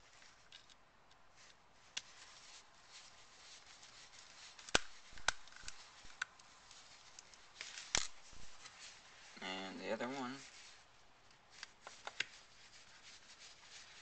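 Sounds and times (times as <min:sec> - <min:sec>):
screwdriver handling and scraping: 0:00.0 - 0:09.1, 0:10.4 - 0:14.0.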